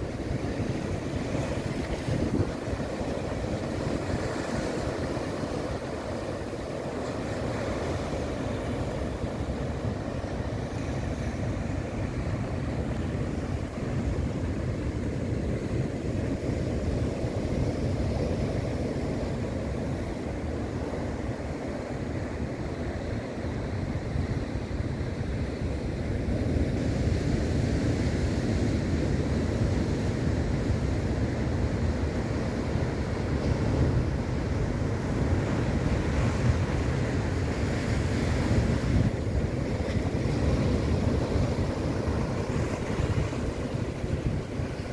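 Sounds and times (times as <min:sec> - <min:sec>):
surf washing over rocks: 0:00.0 - 0:44.9
wind rumbling on microphone: 0:00.0 - 0:44.9.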